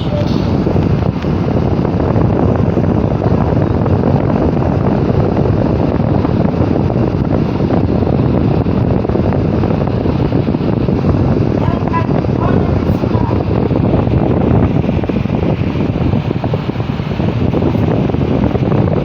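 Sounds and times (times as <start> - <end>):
electric fan running: 0.0 - 19.0.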